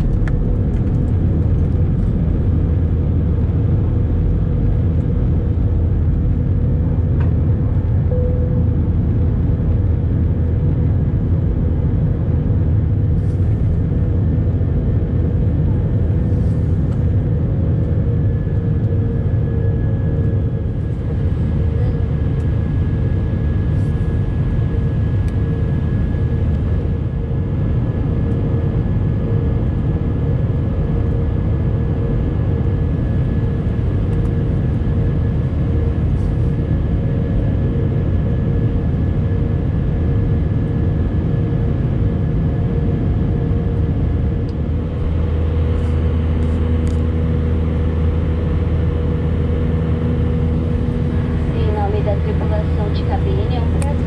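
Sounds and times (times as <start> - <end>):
deep hum: 0.0 - 54.0
jet cabin engine drone: 0.0 - 54.0.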